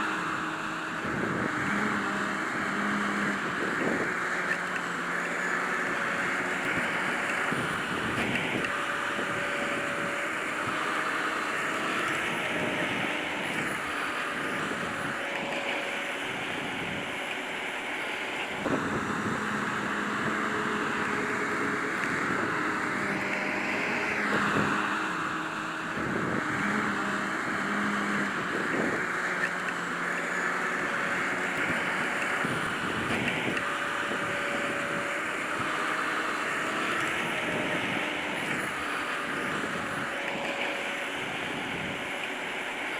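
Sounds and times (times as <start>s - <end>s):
harvester machine running: 0.0s - 42.9s.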